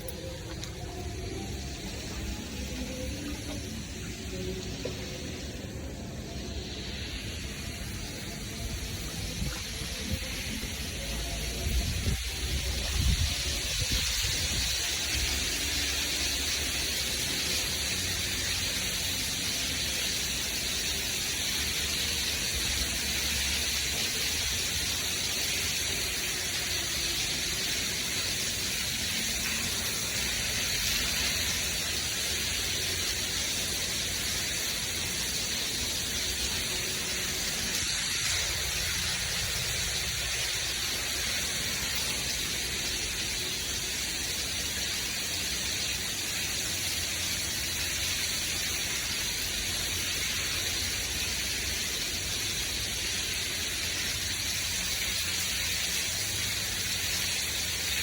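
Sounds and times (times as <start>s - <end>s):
rushing water hiss: 0.0s - 58.0s.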